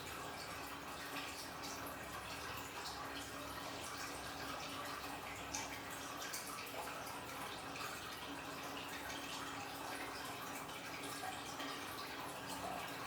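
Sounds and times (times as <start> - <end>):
faint constant hum: 0.0 - 13.0
water trickling and splashing: 0.0 - 13.0.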